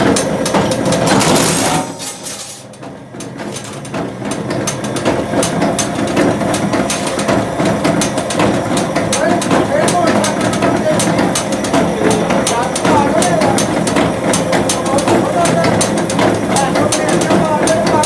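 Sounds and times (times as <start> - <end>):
cutting machine clatter and clicks: 0.0 - 18.0.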